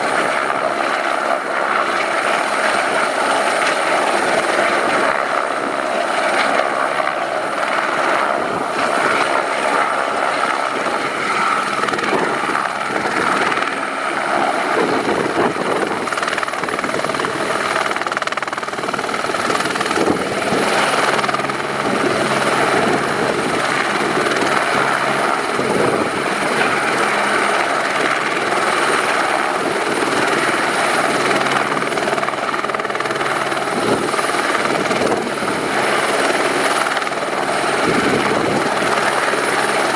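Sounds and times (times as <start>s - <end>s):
helicopter rotor running: 0.0s - 39.9s
high turbine whine: 6.9s - 39.9s.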